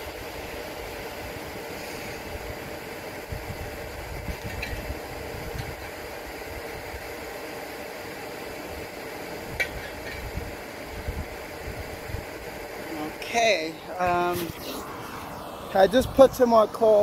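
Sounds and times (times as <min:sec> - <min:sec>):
blow dryer whirring: 0:00.0 - 0:17.0
low rumble of fire: 0:00.0 - 0:17.0.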